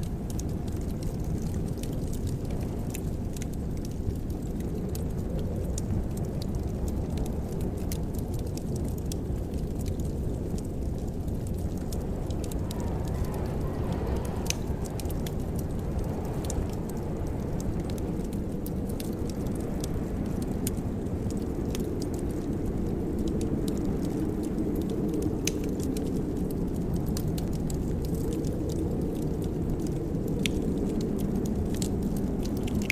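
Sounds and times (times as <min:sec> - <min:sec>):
fire crackling and popping: 0:00.0 - 0:32.9
low rumble of fire: 0:00.0 - 0:32.9.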